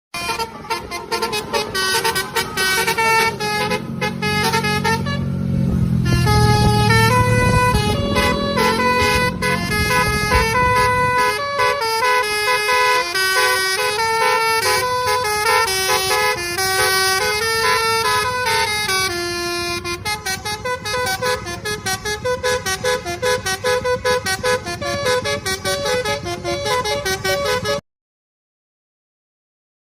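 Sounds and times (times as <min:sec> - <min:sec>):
musical bus air horn: 0:00.1 - 0:27.8.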